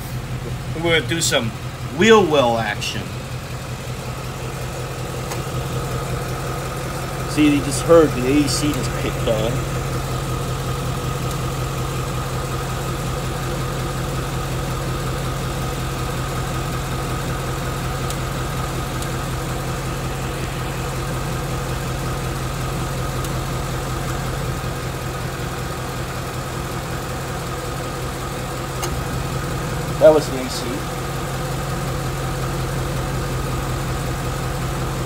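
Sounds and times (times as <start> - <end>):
air conditioning running: 0.0 - 35.0
car engine idling: 0.0 - 35.0.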